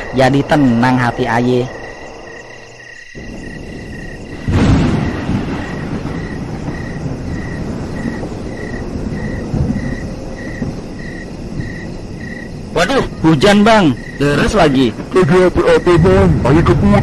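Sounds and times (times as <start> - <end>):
crickets chirping: 0.0 - 17.0
thunder rumbling: 0.0 - 17.0
heavy rain falling: 3.2 - 17.0.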